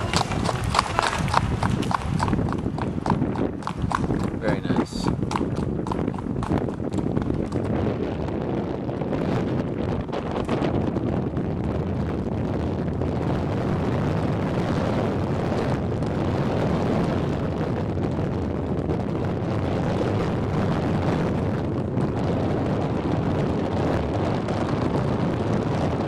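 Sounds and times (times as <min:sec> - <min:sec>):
low rumble: 0:00.0 - 0:26.0
wind buffeting microphone: 0:00.0 - 0:26.0.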